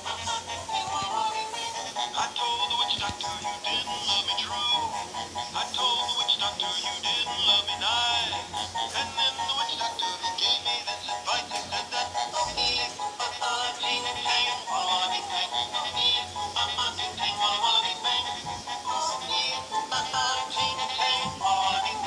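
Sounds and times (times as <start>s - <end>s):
synthesized singing over a tune: 0.0s - 22.0s.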